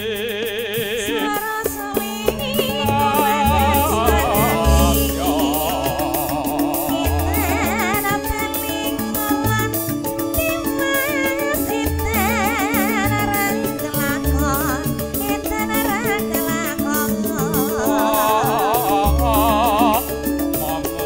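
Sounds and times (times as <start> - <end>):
fast drum beat: 0.0 - 21.0
woman singing with vibrato: 0.0 - 21.0
held bass notes: 1.0 - 10.9, 11.7 - 21.0.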